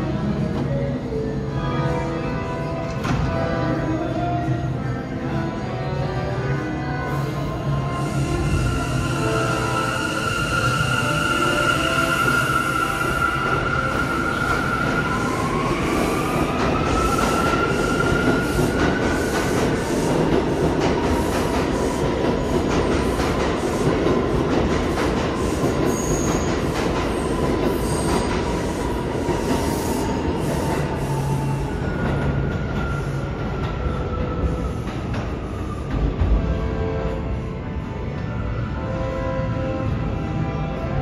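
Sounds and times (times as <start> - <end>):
subway wheels rumbling and clacking: 0.0 - 41.0.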